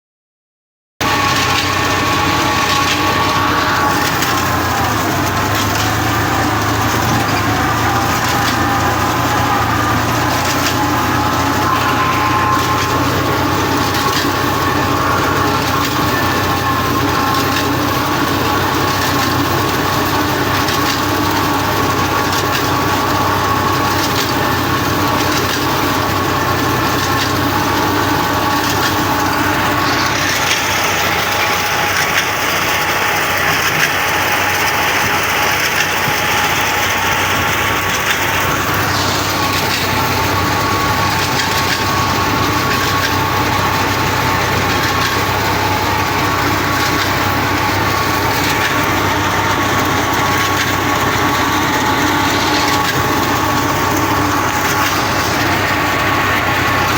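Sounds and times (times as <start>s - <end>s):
tractor engine running: 1.0s - 56.9s.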